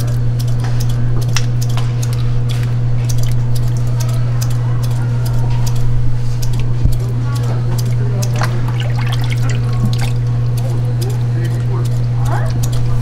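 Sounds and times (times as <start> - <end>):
loud steady low hum: 1.0 - 13.0.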